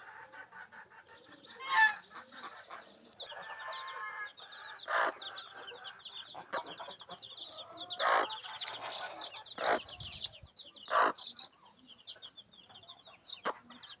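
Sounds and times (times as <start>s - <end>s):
chickens clucking and calling: 0.0s - 14.0s
high-pitched chirps from birds: 1.1s - 14.0s.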